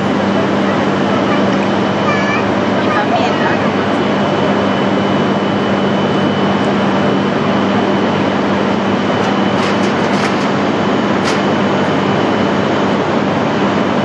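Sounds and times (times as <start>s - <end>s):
train running hum: 0.0s - 14.0s.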